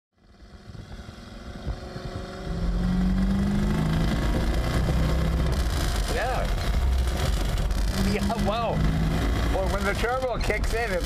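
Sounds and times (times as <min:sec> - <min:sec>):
car engine droning: 0:00.2 - 0:11.0.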